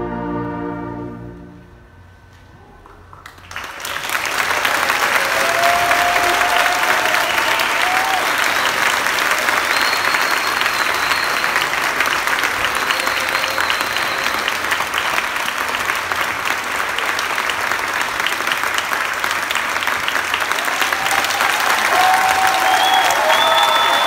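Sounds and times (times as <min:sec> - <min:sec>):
audience applauding: 0:02.8 - 0:24.0.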